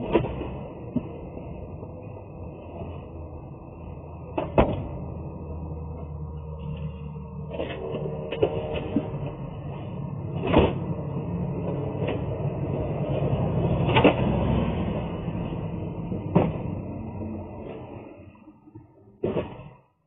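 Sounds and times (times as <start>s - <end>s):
steady low rumble: 0.0s - 19.4s.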